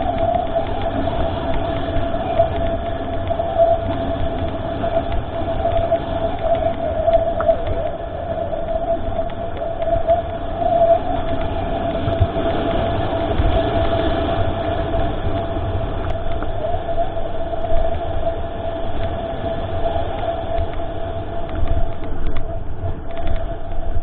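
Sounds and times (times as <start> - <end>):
bike tyres rumbling: 0.0 - 24.0
steady high whine: 0.0 - 24.0
wind on microphone: 0.0 - 24.0.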